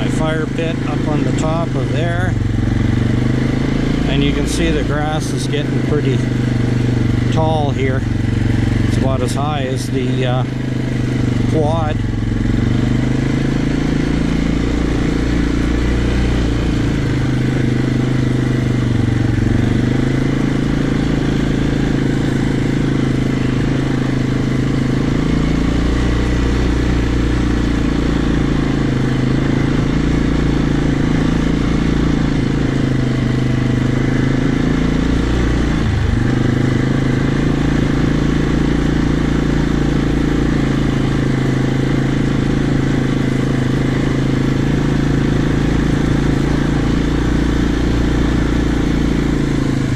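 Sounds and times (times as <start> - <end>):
quad bike engine running: 0.0 - 49.9.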